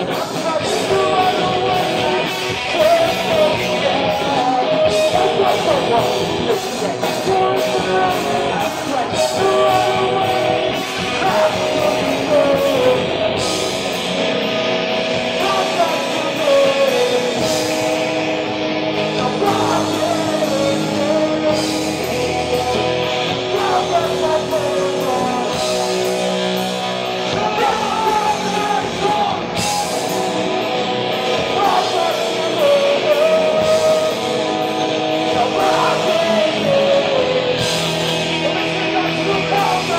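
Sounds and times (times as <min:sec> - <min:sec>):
person singing: 0:00.0 - 0:14.1, 0:15.1 - 0:39.9
bass guitar: 0:00.0 - 0:39.9
distorted electric guitars: 0:00.0 - 0:39.9
drums: 0:00.0 - 0:39.9.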